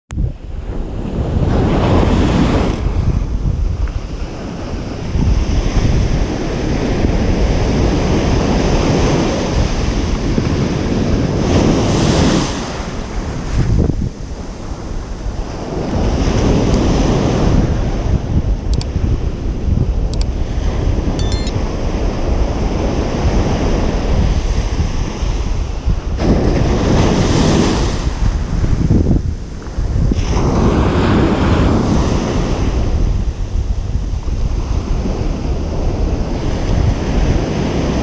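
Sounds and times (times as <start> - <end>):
waves breaking on a beach: 0.4 - 21.1, 21.8 - 38.0.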